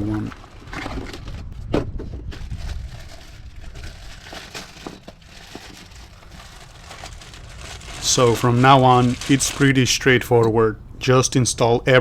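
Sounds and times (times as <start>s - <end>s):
crinkling and rustling: 0.0s - 10.0s.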